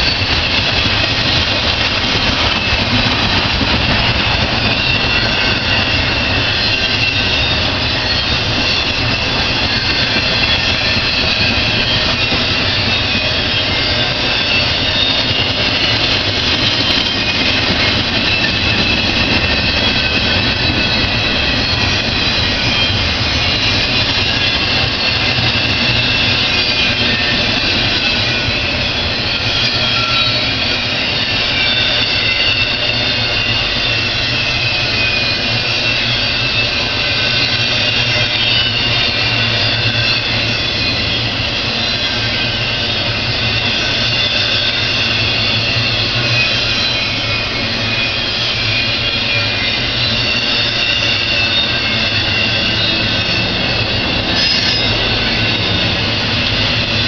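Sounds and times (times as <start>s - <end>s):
steel train wheels rumbling on rails: 0.0s - 57.0s.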